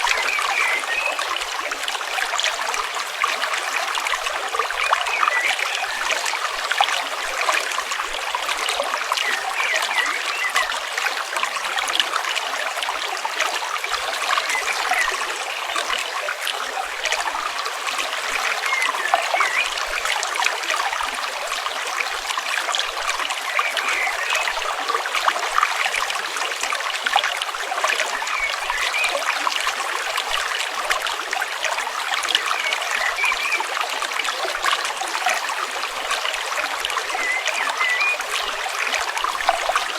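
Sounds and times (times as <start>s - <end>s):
stream water flowing and gurgling: 0.0s - 39.9s.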